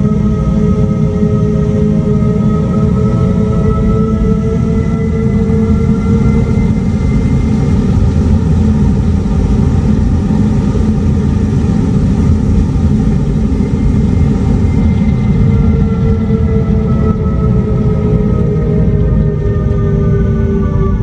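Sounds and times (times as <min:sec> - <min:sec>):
low electronic rumble: 0:00.0 - 0:21.0.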